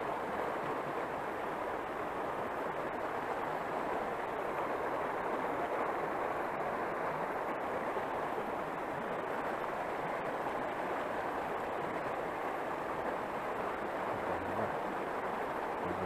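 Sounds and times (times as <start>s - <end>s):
rushing water: 0.0s - 16.0s
wind: 0.0s - 16.0s.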